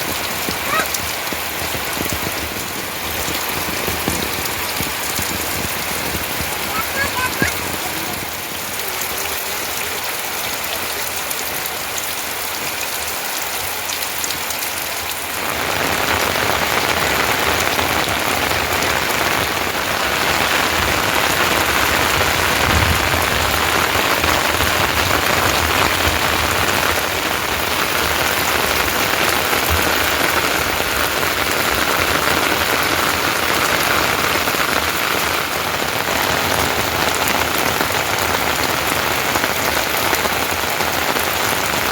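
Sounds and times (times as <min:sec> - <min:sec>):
heavy rain pattering: 0:00.0 - 0:41.9.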